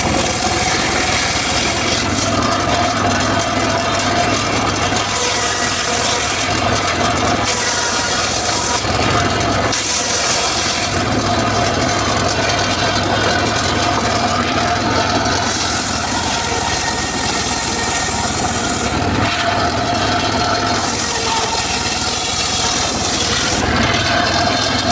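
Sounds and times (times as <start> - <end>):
circular saw cutting wood: 0.0 - 24.9.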